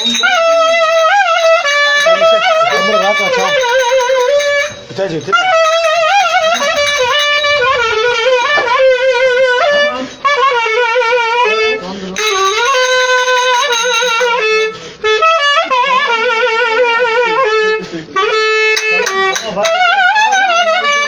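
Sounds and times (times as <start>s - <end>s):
clarinet playing ornamented melody: 0.0s - 21.0s.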